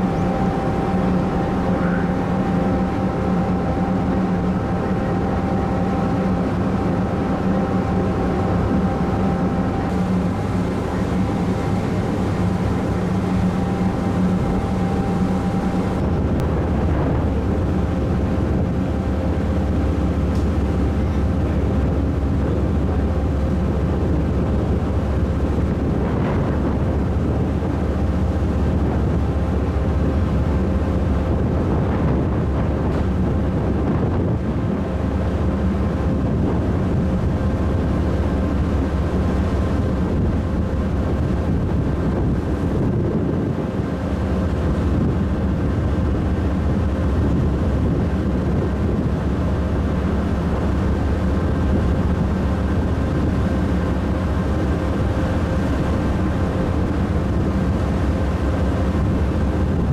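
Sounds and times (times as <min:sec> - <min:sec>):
vehicle engine drone: 0:00.0 - 0:59.9.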